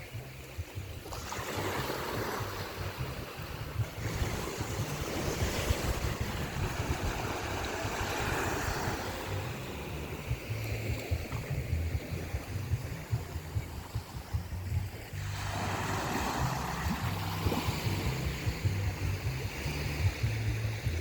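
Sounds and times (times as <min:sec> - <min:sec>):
ocean waves breaking: 0:00.0 - 0:21.0
wind buffeting microphone: 0:00.0 - 0:21.0.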